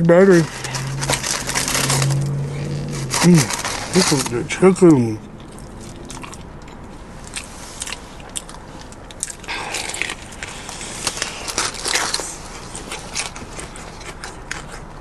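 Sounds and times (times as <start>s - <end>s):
crunchy fried chicken chewing: 0.4s - 4.6s, 5.3s - 15.0s.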